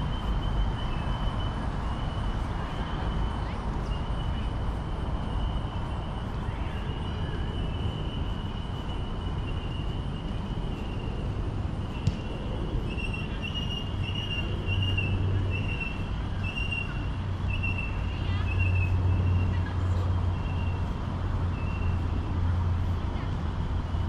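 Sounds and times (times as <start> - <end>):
traffic: 0.0 - 24.0.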